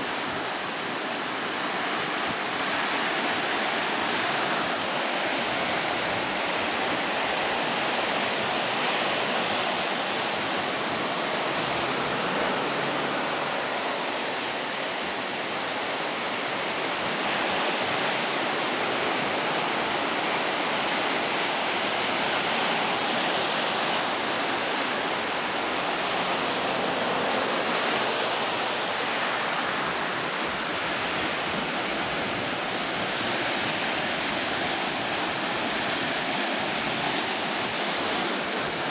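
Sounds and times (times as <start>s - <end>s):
surf breaking on beach: 0.0s - 38.9s.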